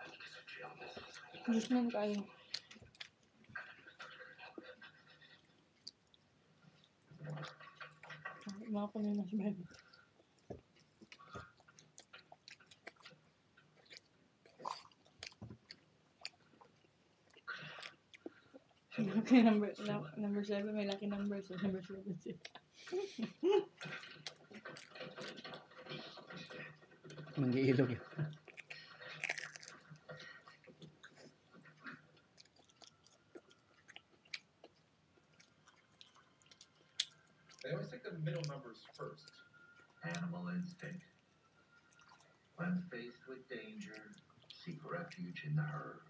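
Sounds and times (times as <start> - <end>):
food chewing crunches: 0.0 - 8.6, 9.6 - 19.0, 23.8 - 42.6, 43.5 - 45.8.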